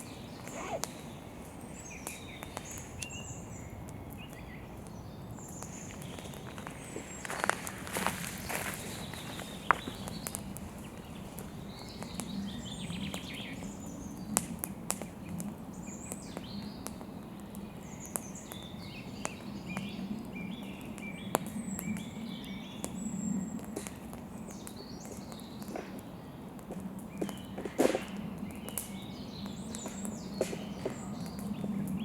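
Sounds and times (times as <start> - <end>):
campfire crackling: 0.0 - 32.0
small birds chirping: 0.0 - 32.0.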